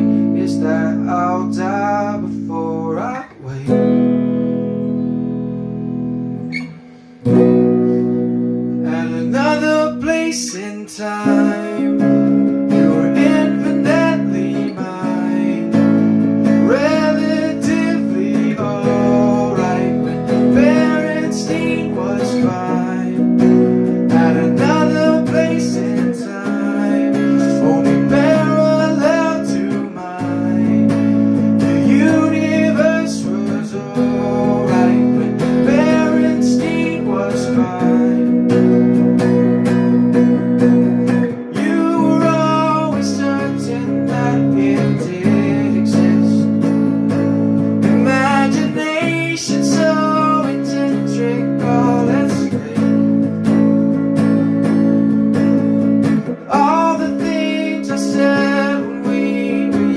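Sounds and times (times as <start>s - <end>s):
person singing: 0.0s - 5.0s, 7.3s - 54.1s, 56.2s - 59.9s
acoustic guitar strumming: 0.0s - 59.9s.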